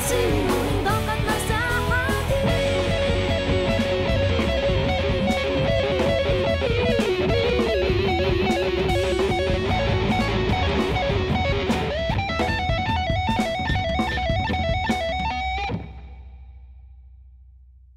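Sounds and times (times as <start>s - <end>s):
steady drum beat: 0.0s - 16.0s
guitar melody: 0.0s - 16.4s
bass: 0.0s - 17.9s.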